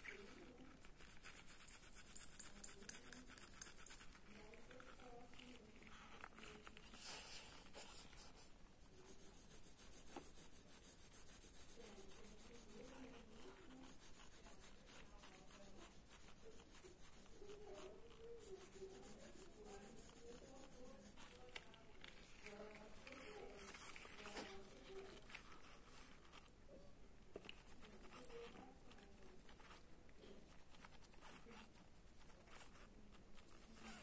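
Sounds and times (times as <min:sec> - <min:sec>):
pencil scratching on paper: 0:00.0 - 0:26.6, 0:27.3 - 0:34.0.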